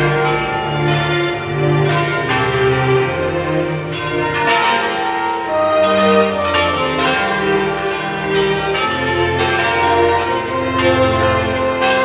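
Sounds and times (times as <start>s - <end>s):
church bells pealing: 0.0s - 12.0s.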